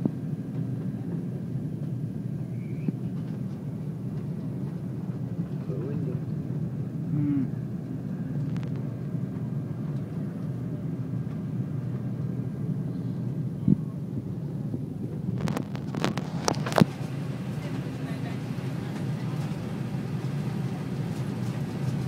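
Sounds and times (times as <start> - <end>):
airliner engines droning: 0.0 - 22.0.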